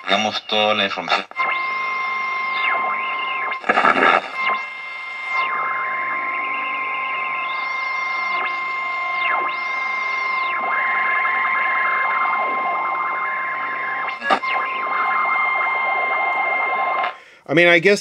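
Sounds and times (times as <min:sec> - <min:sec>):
radio static crackle: 0:00.0 - 0:17.3
radio heterodyne whistles: 0:00.0 - 0:17.4
steady radio whine: 0:00.0 - 0:17.4.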